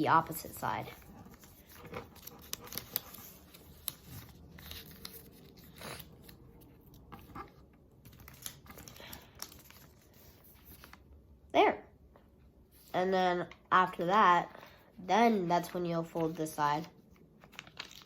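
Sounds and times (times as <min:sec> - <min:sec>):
paper rustling and crinkling: 0:00.2 - 0:11.1, 0:14.4 - 0:18.0.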